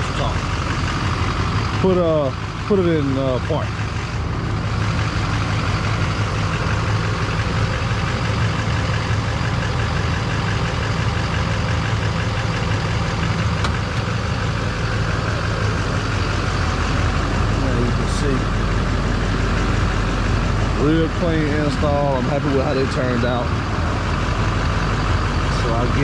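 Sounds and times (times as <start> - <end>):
pickup engine idling: 0.0 - 26.0.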